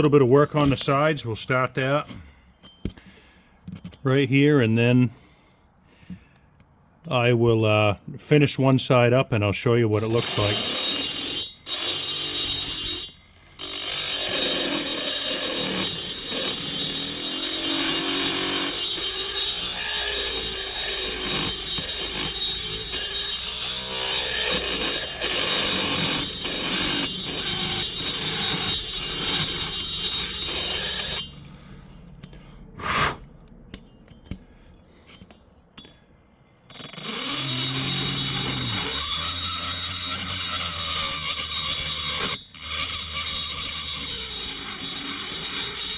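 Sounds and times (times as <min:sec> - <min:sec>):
rotary tool grinding metal: 0:00.0 - 0:02.9, 0:10.0 - 0:36.0, 0:36.7 - 0:45.9.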